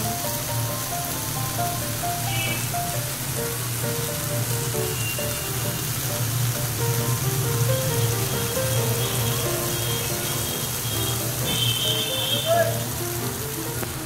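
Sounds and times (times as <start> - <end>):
food sizzling in a pan: 0.0 - 14.0
instrumental background music: 0.0 - 14.0.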